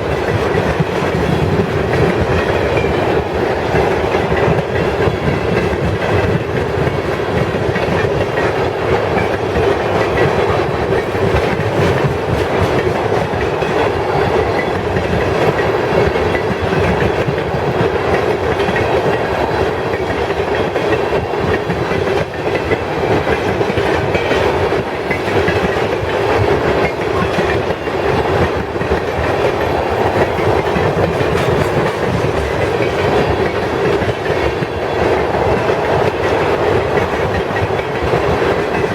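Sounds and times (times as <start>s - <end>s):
freight train cars rolling: 0.0s - 38.9s
wheels clacking over rails: 0.0s - 38.9s.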